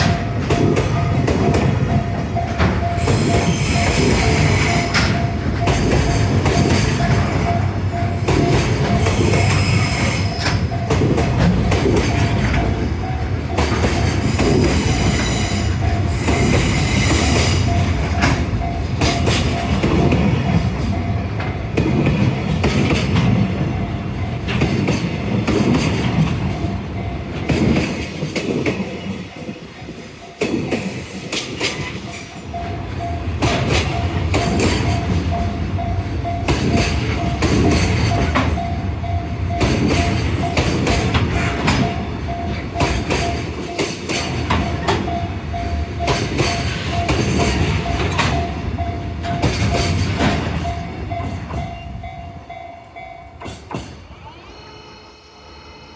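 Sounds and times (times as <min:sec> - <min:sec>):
train wheels clattering over rail joints: 0:00.0 - 0:32.6, 0:33.2 - 0:51.8
level-crossing alarm bell: 0:00.0 - 0:55.9.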